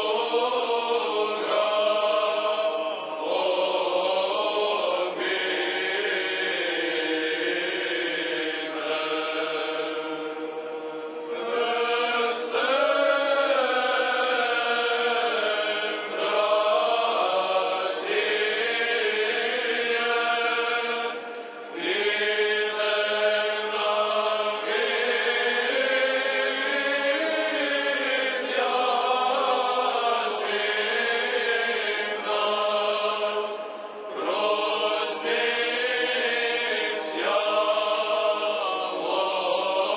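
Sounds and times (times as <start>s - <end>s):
choir singing liturgical chant: 0.0s - 39.9s.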